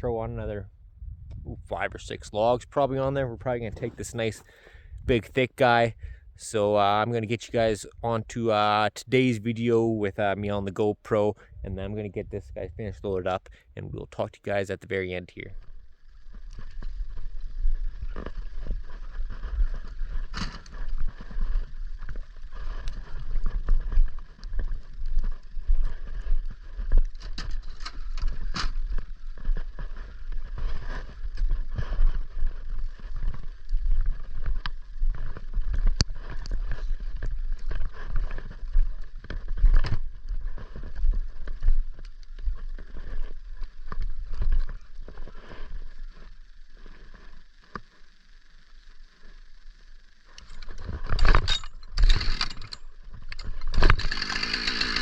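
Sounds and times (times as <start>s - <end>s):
steady low rumble: 0.0s - 51.9s.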